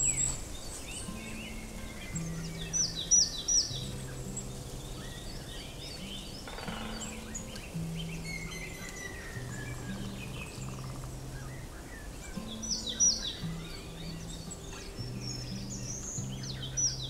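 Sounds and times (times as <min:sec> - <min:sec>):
birds chirping and calling: 0:00.0 - 0:17.0
soft background music: 0:00.0 - 0:17.0.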